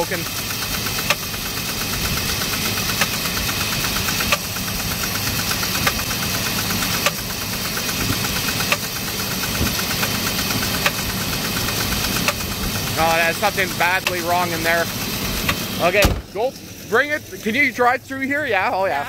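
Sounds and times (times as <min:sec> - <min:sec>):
car engine idling: 0:00.0 - 0:19.0
fast engine ticking: 0:00.0 - 0:19.0.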